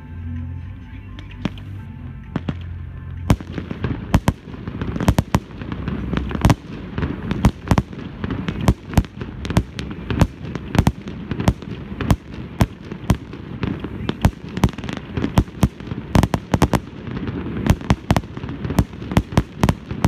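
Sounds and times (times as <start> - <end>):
fireworks bangs: 1.3 - 20.0.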